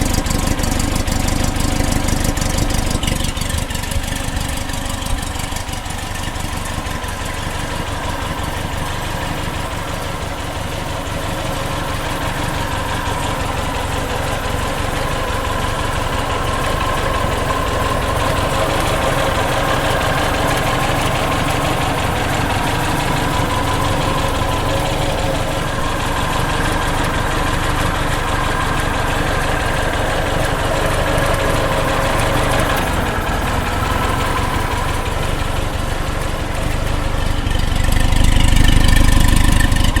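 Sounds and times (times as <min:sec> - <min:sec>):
car engine running: 0:00.0 - 0:40.0.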